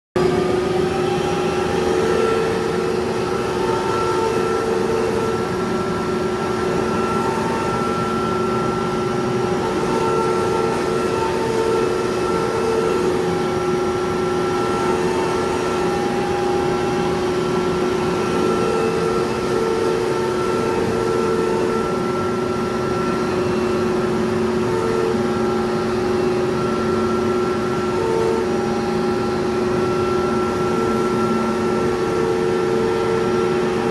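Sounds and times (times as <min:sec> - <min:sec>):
machine motor hum: 0:00.2 - 0:33.9
pitched motor tones: 0:00.2 - 0:33.9.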